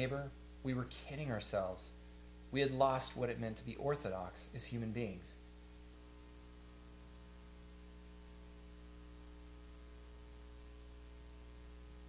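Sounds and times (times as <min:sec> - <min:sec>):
faint hiss: 0:00.0 - 0:12.0
low electrical hum: 0:00.0 - 0:12.0.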